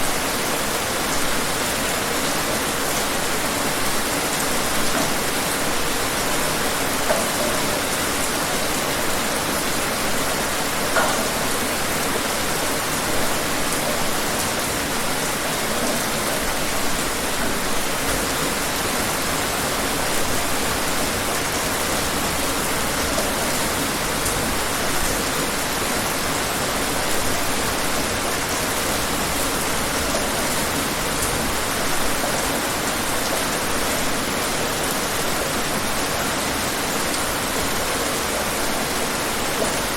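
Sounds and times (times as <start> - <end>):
individual raindrops: 0.0 - 39.9
steady rain hiss: 0.0 - 39.9.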